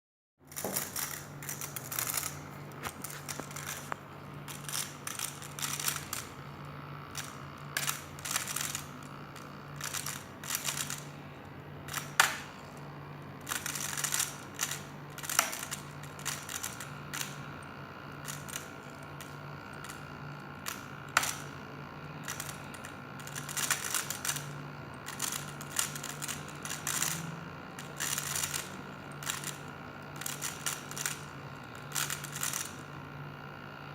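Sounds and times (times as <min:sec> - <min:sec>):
laptop grinding and crackling: 0:00.4 - 0:33.8
low steady hum: 0:00.4 - 0:33.9.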